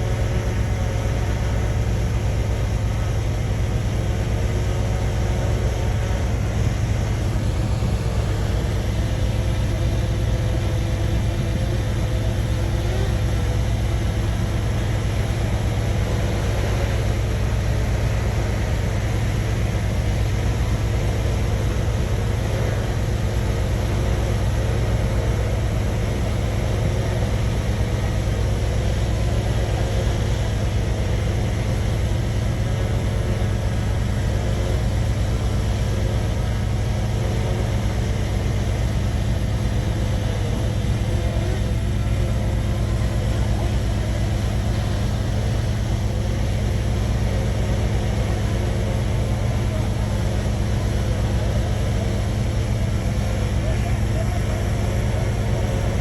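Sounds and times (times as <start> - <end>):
bulldozer diesel engine humming: 0.0 - 56.0.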